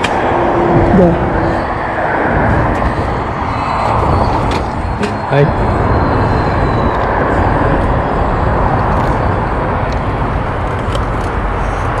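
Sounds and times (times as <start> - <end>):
road noise: 0.0 - 12.0
wind rush: 0.0 - 12.0.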